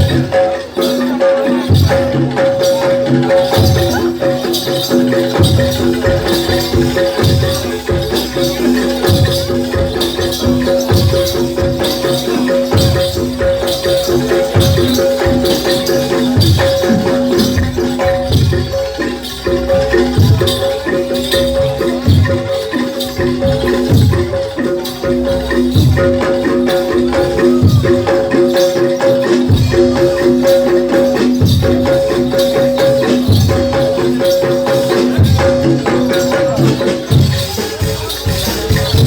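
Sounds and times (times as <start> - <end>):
ringing metallophone tones: 0.0 - 39.0.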